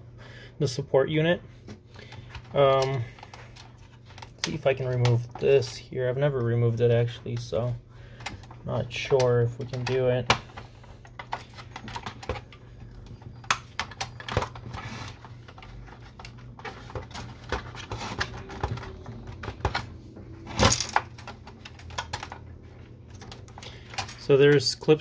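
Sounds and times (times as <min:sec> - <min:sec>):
steady low hum: 0:00.0 - 0:25.0
plastic printer parts clicking: 0:02.0 - 0:19.9, 0:20.5 - 0:25.0.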